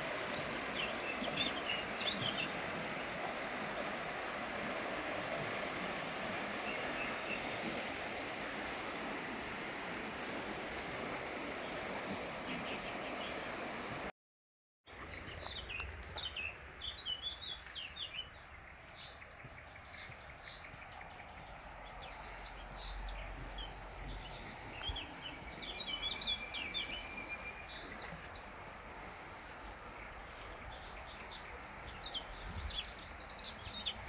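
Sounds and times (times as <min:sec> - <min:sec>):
mountain stream rushing: 0:00.0 - 0:14.1, 0:19.8 - 0:34.0
songbirds chirping: 0:00.0 - 0:14.1, 0:14.9 - 0:34.0.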